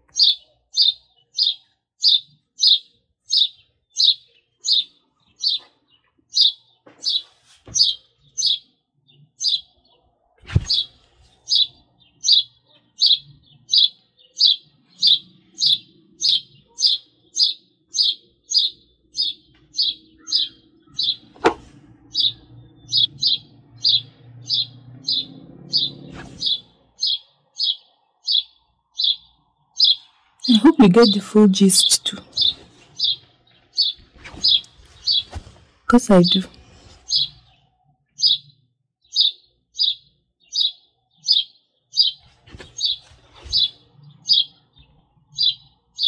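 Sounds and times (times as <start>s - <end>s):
songbird chirping: 0.0s - 46.0s.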